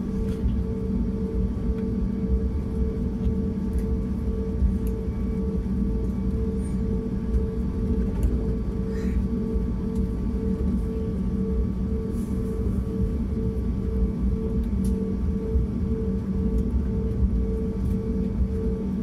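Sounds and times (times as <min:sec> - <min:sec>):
airliner cabin rumble: 0:00.0 - 0:19.0
jet engines humming at idle: 0:00.0 - 0:19.0.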